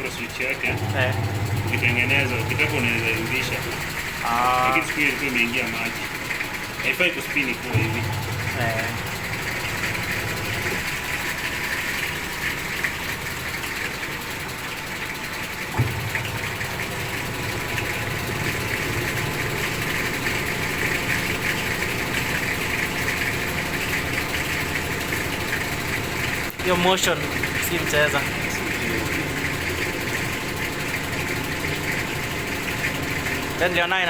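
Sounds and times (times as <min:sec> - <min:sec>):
washing machine motor hum: 0:00.0 - 0:34.0.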